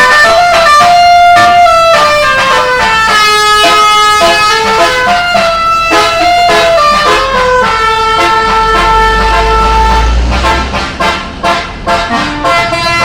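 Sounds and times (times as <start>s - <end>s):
musical bus horn melody: 0.0s - 13.0s.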